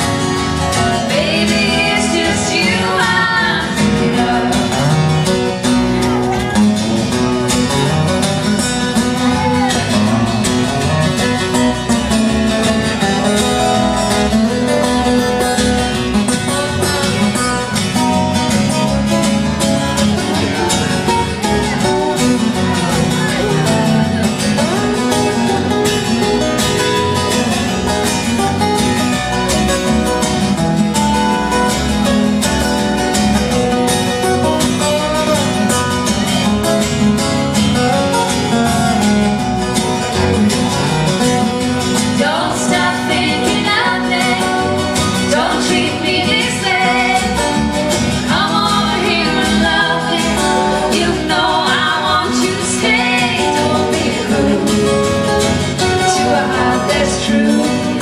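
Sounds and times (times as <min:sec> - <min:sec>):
acoustic guitar picking melody: 0:00.0 - 0:58.0
electric bass guitar: 0:00.0 - 0:58.0.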